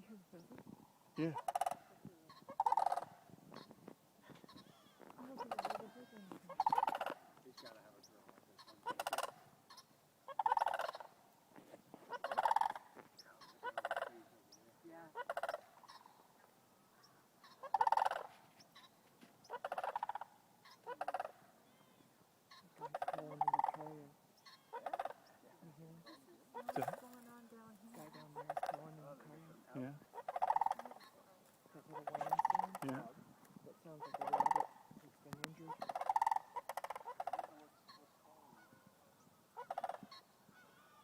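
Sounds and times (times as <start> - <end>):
crane calling: 0.0 - 41.0.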